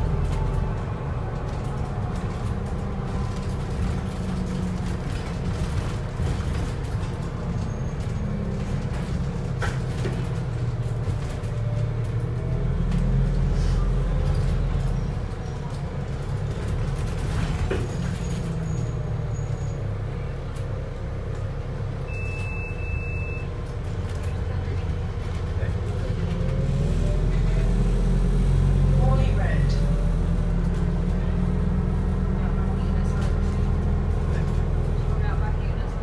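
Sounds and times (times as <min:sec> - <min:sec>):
bus engine drone: 0:00.0 - 0:36.0
road noise: 0:00.0 - 0:36.0.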